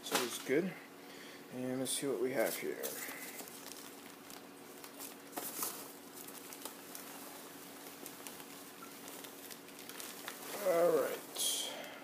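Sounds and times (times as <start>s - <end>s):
faint steady hum: 0.0s - 12.0s
packing peanuts rustling: 2.2s - 12.0s.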